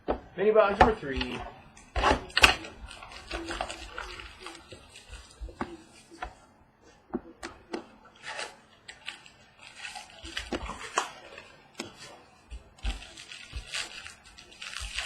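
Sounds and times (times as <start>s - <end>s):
cardboard and wrapper crinkling: 0.8s - 6.4s, 7.5s - 15.0s.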